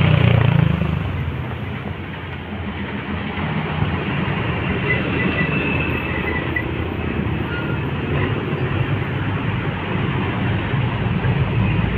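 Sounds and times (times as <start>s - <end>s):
road traffic: 0.0s - 11.9s.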